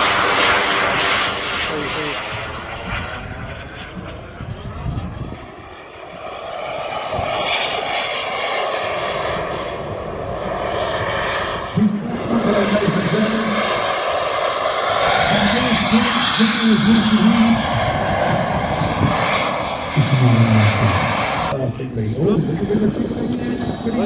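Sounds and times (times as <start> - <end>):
model jet engine: 0.0 - 24.0.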